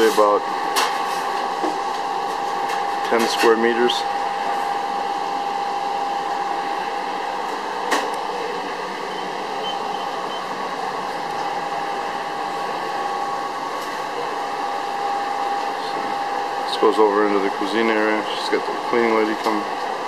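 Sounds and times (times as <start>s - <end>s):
kitchen fans and refrigeration whir: 0.0s - 20.0s
mid-pitched hum: 0.0s - 20.0s.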